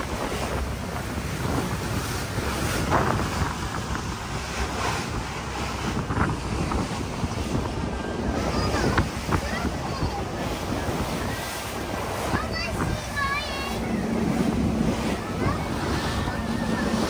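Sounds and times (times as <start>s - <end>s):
boat rushing through water: 0.0s - 17.0s
wind buffeting microphone: 0.0s - 17.0s.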